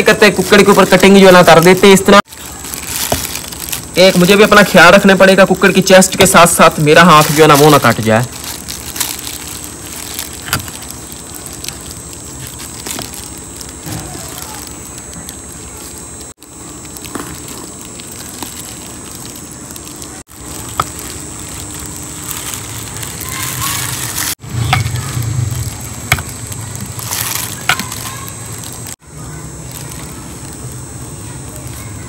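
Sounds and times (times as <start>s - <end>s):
plastic gloves crinkling: 0.0s - 32.0s.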